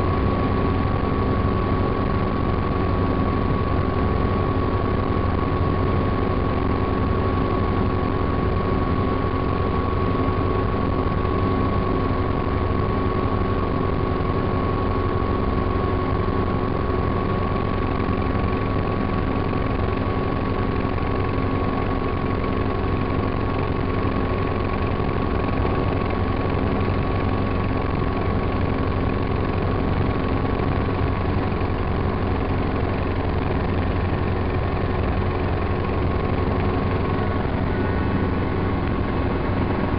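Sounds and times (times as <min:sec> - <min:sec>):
helicopter engine and rotor drone: 0:00.0 - 0:39.9
thin steady whine: 0:00.0 - 0:39.9.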